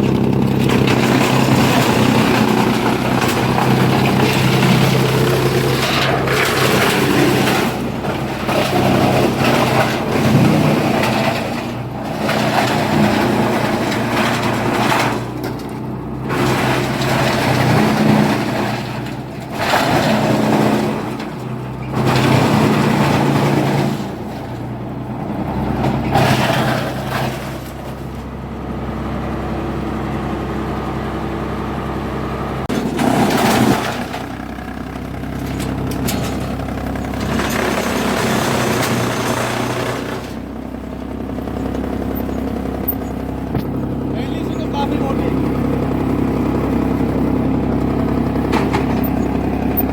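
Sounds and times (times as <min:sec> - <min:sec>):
wood chipper engine drone: 0:00.0 - 0:49.9.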